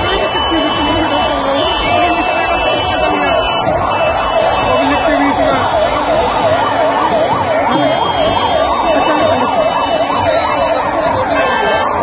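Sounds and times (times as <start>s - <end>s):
large crowd din: 0.0s - 12.0s
vehicle siren yelping: 0.0s - 12.0s.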